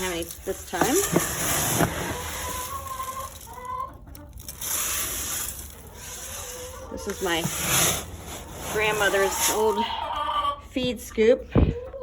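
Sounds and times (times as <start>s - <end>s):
chickens clucking: 0.0s - 12.0s
chicken drawn-out calls: 0.9s - 10.7s.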